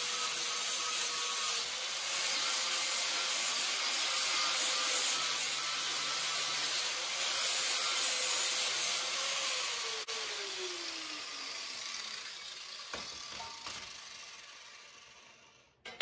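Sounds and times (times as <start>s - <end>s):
angle grinder grinding metal: 0.0s - 15.8s.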